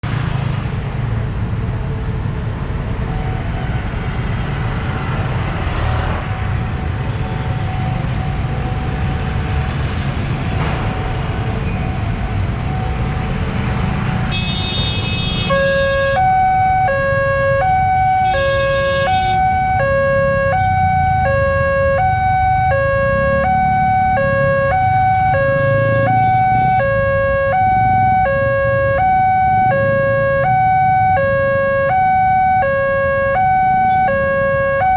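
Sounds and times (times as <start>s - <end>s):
road traffic rumble: 0.0s - 34.9s
two-tone warning siren: 6.2s - 34.9s.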